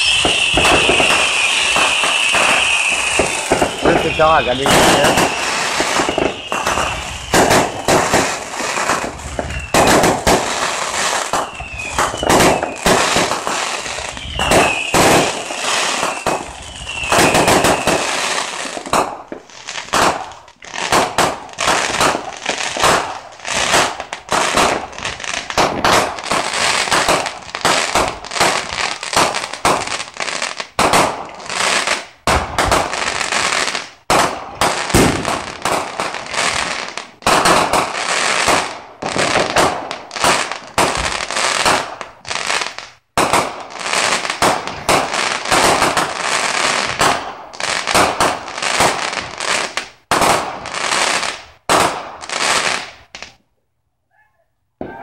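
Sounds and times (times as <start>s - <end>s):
fireworks bursting and crackling: 0.0s - 53.5s.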